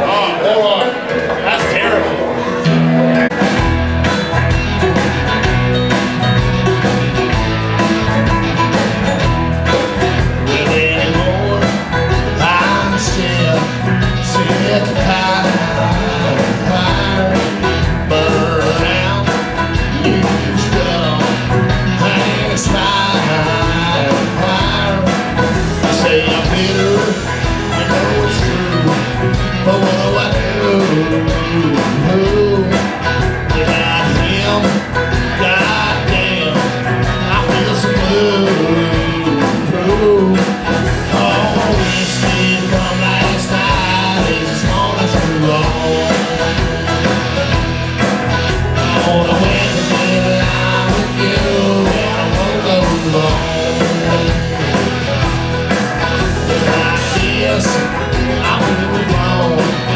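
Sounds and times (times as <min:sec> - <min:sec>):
acoustic guitars: 0:00.0 - 0:59.9
banjo: 0:00.0 - 0:59.9
drums: 0:00.0 - 0:59.9
electric guitar: 0:00.0 - 0:59.9.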